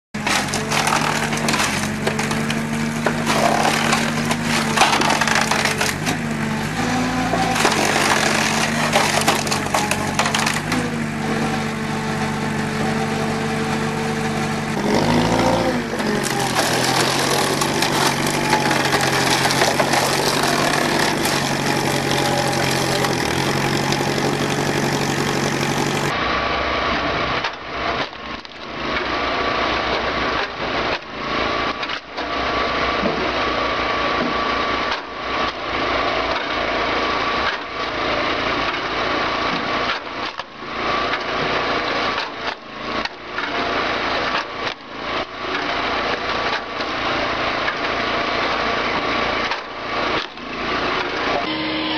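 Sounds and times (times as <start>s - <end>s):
knocks of firewood splitting: 0.2s - 26.2s, 27.4s - 51.5s
log splitter engine running: 0.2s - 51.9s.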